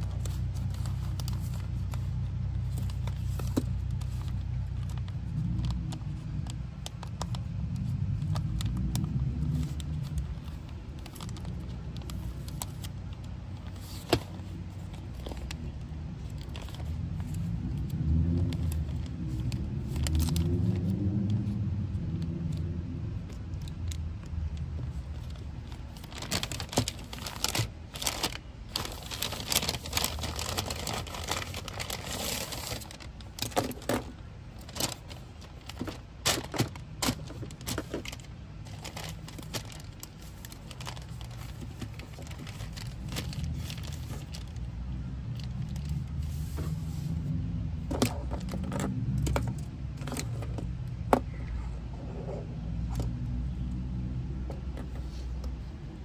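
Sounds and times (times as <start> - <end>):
paper bag rustling: 0.0 - 7.5, 8.1 - 20.9, 24.8 - 50.5
plastic wrappers crinkling: 0.0 - 50.8.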